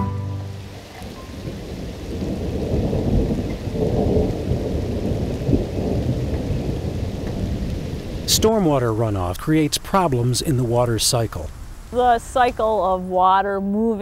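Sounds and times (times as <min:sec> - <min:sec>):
thunder rumbling: 0:00.0 - 0:13.5
steady rain: 0:00.0 - 0:14.0.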